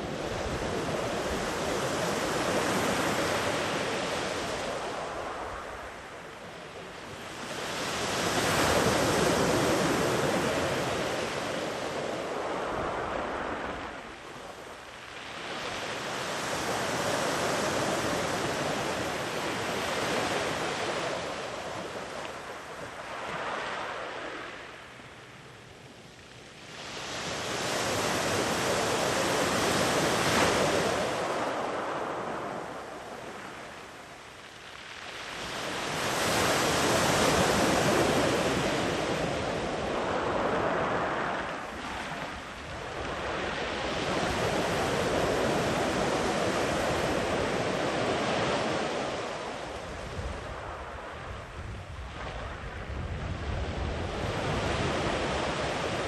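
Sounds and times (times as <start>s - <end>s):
ocean waves on beach: 0.0s - 56.0s
wind on microphone: 0.0s - 56.0s.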